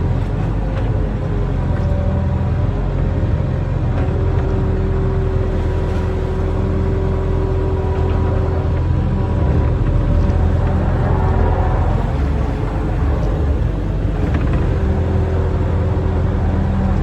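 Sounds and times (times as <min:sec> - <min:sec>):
excavator engine running: 0:00.0 - 0:17.0
steady whine: 0:00.0 - 0:17.0.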